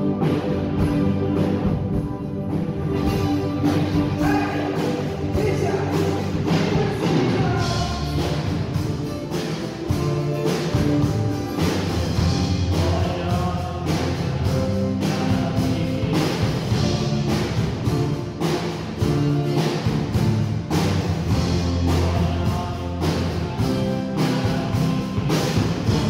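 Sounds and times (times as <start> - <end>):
acoustic guitar: 0.0 - 26.0
bass guitar: 0.0 - 26.0
drum kit beat: 0.0 - 26.0
electric guitars: 0.0 - 26.0.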